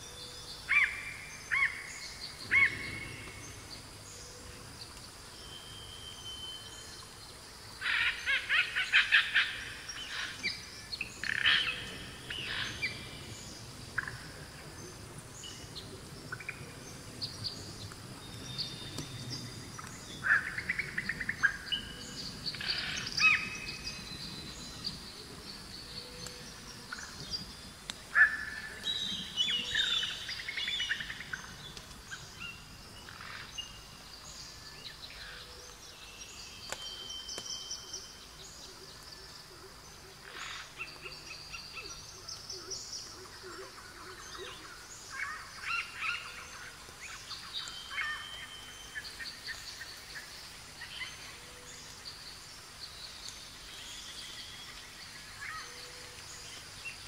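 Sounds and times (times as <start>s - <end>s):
faint steady hiss: 0.0s - 57.0s
songbirds chirping and singing: 0.0s - 57.0s.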